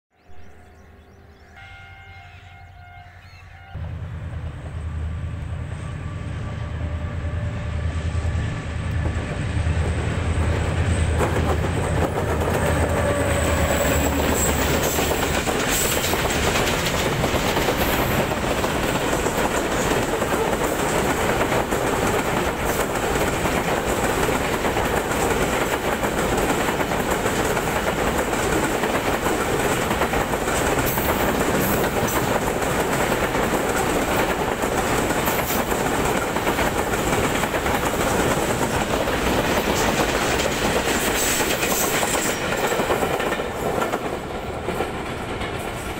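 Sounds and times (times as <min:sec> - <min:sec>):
diesel locomotive engine rumble: 0:00.4 - 0:45.9.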